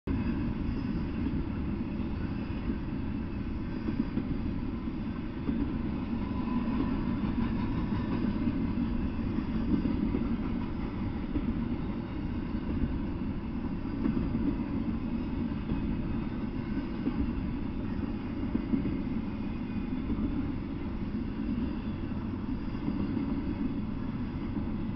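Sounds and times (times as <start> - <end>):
freight train wheels rumbling: 0.1 - 24.9.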